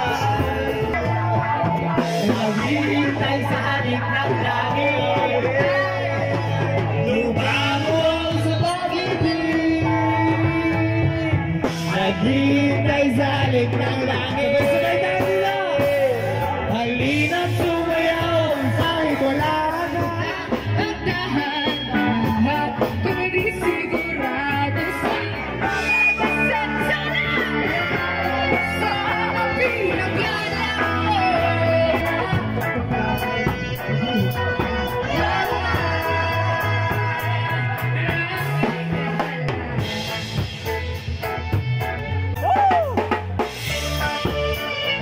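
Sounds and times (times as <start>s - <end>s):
person singing: 0.0s - 41.5s
live rock band: 0.0s - 45.0s.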